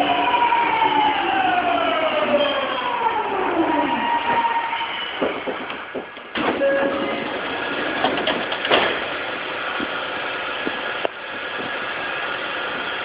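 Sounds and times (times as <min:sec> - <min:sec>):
train car rumble: 0:00.0 - 0:13.0.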